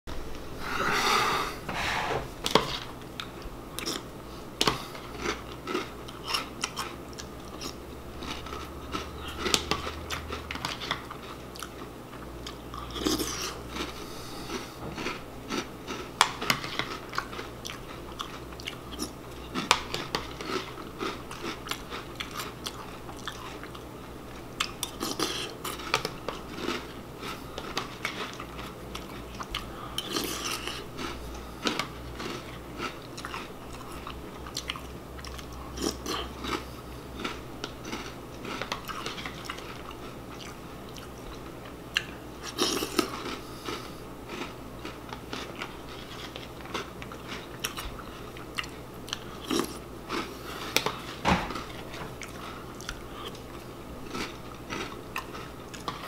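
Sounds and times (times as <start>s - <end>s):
crunchy chewing: 2.4s - 56.0s.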